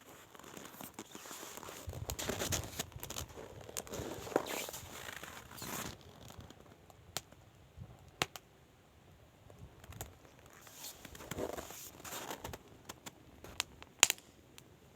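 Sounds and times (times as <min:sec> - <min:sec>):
log fire crackling: 0:00.1 - 0:08.5, 0:09.4 - 0:14.8.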